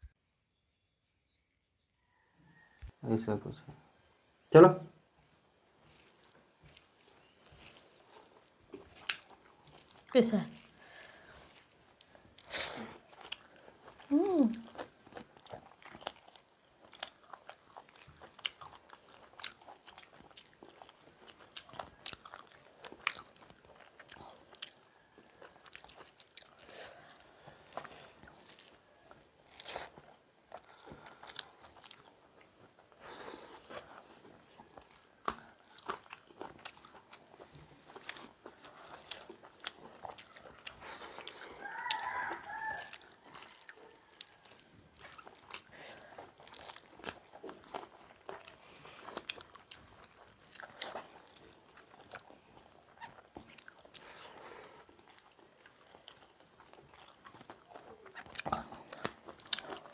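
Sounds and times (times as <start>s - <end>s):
chewing and mouth smacks: 5.8s - 59.9s.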